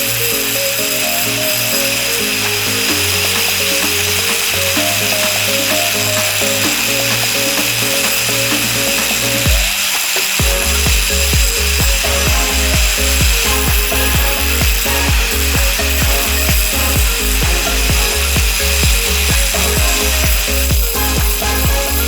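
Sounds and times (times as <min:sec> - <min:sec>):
grinder grinding steel: 0:00.0 - 0:22.0
music with bass beat: 0:00.0 - 0:22.0.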